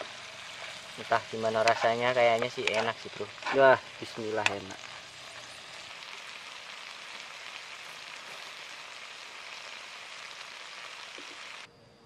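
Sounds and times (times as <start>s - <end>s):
meat and vegetables sizzling in pan: 0.0s - 11.7s.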